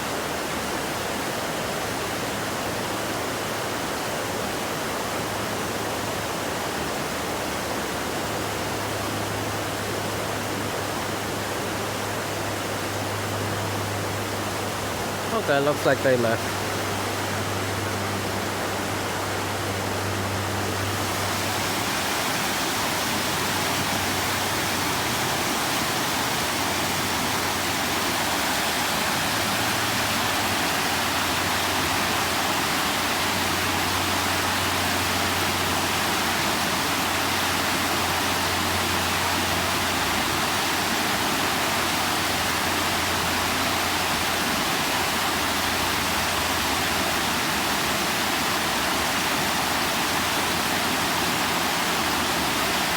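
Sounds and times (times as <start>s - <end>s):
creek water rushing: 0.0s - 52.9s.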